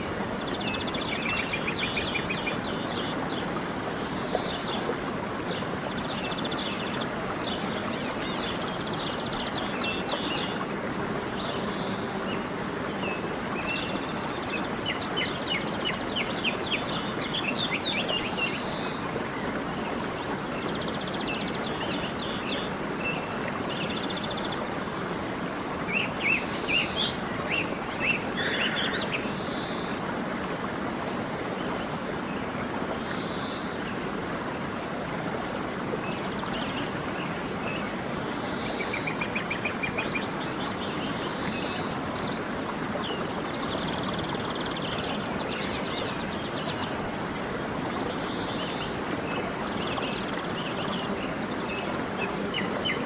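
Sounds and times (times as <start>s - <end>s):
stream running: 0.0s - 53.0s.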